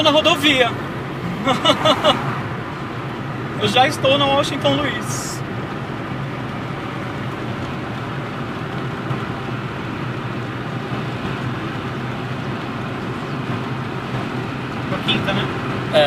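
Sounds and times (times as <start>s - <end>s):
car cabin road noise: 0.0s - 16.0s.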